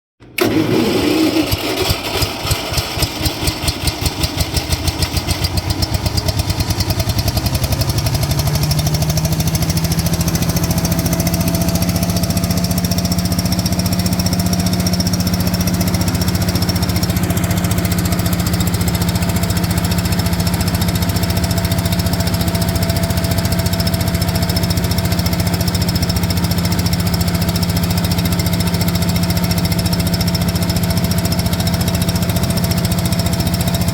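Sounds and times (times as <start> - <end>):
sweeper truck engine running: 0.4 - 33.9.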